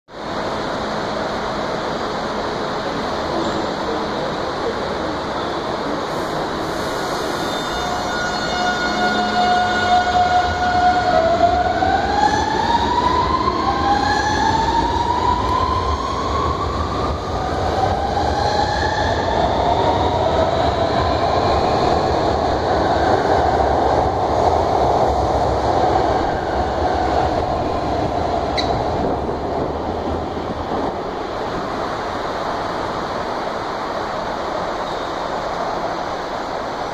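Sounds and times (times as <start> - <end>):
train electric hum rising: 0.1 - 36.9.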